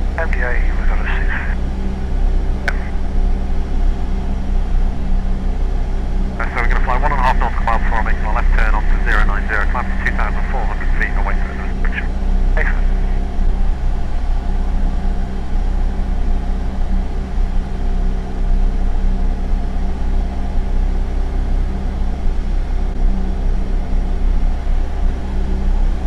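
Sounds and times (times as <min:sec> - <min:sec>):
light aircraft engine drone: 0:00.0 - 0:26.0.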